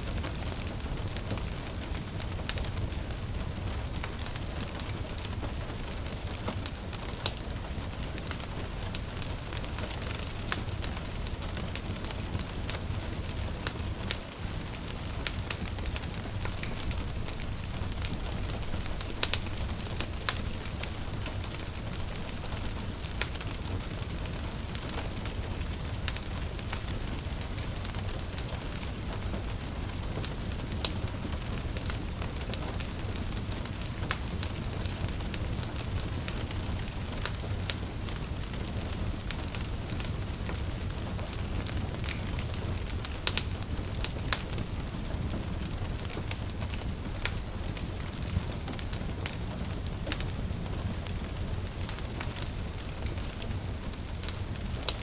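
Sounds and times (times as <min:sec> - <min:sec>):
gentle rain falling: 0:00.0 - 0:55.0
wood fire crackling: 0:00.0 - 0:55.0.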